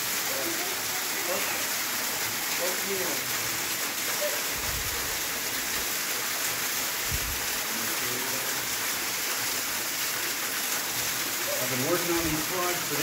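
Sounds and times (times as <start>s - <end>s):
small waterfall splashing: 0.0s - 13.0s.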